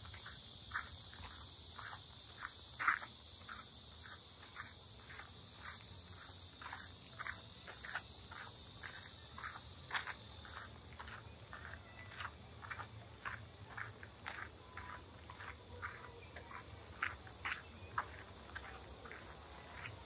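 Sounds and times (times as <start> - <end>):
footsteps on paved path: 0.0 - 20.0
insects chirring: 0.0 - 20.0.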